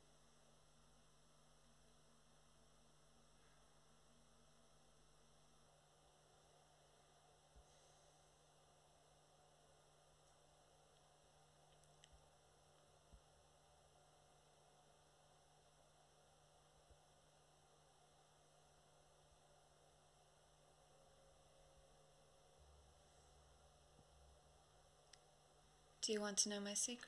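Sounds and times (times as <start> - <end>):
faint electrical hum and hiss: 0.0 - 27.0.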